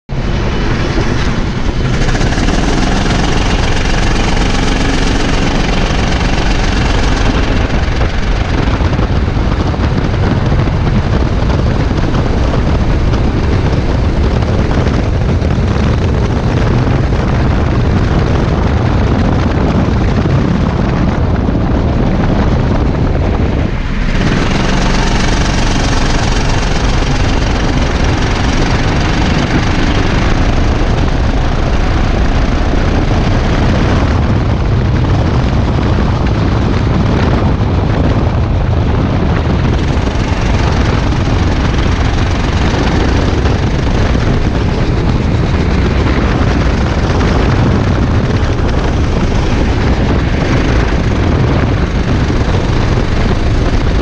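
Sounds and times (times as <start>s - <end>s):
rushing wind noise: 0.0s - 54.0s
go-kart engine running hard: 0.1s - 54.0s.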